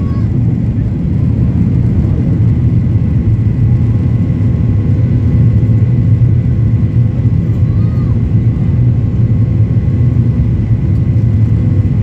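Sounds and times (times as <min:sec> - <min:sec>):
faint steady engine whine: 0:00.0 - 0:12.0
jet engine rumble: 0:00.0 - 0:12.0.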